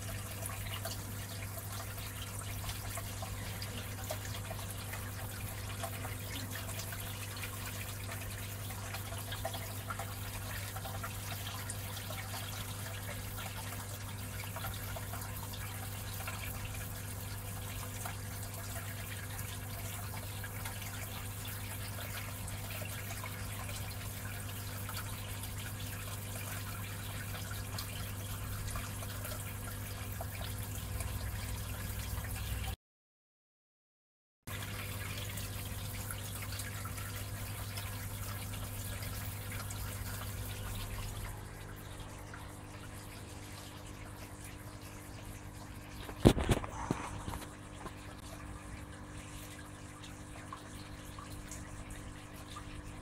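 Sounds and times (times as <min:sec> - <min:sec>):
water trickling and dripping: 0:00.0 - 0:32.8, 0:34.5 - 0:53.0.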